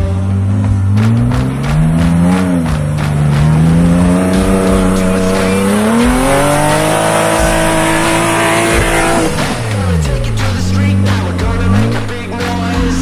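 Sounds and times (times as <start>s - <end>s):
buggy engine running hard: 0.0s - 13.0s.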